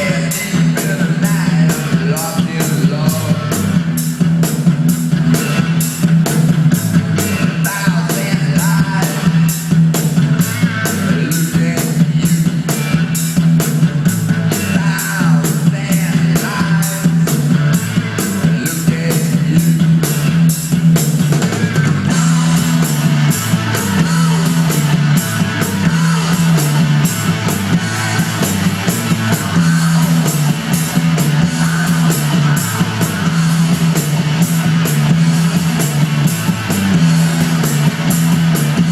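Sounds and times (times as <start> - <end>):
rock music through speakers: 0.0 - 38.9.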